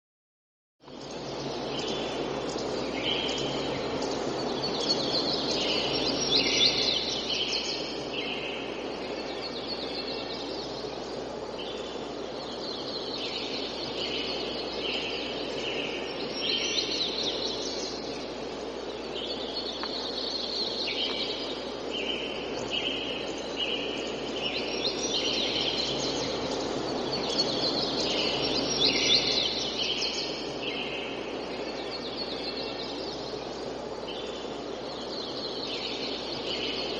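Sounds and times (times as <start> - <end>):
forest background hiss: 0.8 - 36.9
birds calling: 0.9 - 36.9.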